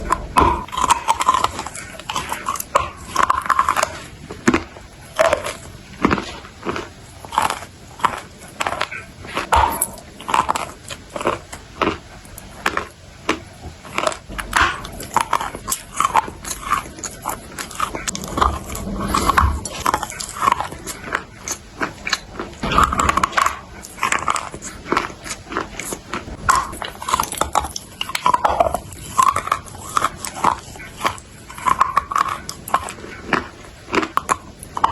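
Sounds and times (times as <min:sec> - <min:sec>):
crunching and chewing clay: 0:00.0 - 0:34.9
wet mouth sounds: 0:00.0 - 0:34.9.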